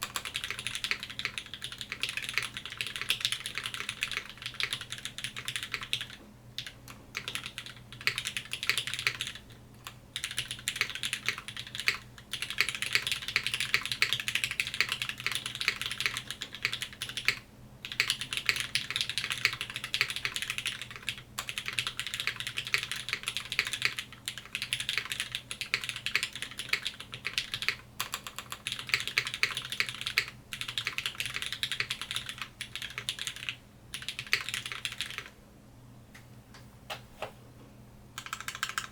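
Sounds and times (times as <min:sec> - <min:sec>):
typing on mechanical keyboard: 0:00.0 - 0:35.3, 0:38.2 - 0:38.9.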